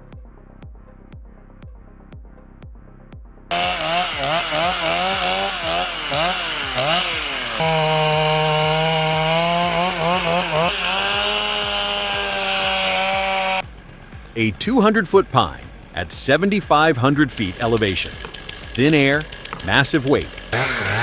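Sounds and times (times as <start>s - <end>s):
chainsaw engine revving: 3.5s - 21.0s.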